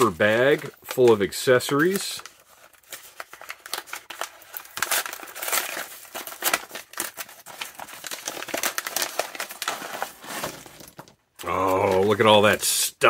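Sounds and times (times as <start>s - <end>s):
paper bag crinkling: 0.0s - 12.4s.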